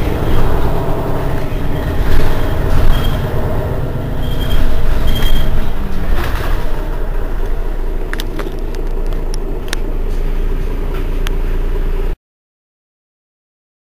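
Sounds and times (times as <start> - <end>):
bus engine idling: 0.0 - 12.2.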